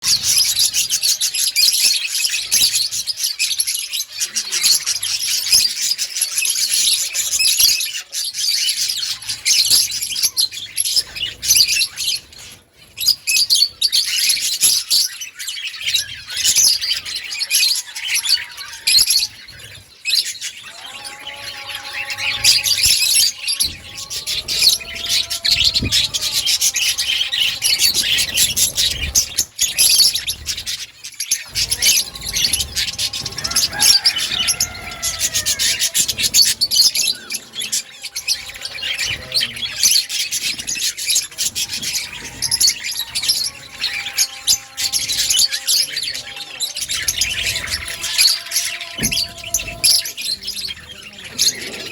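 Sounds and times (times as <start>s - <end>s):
budgerigars chirping and chattering: 0.0s - 51.9s.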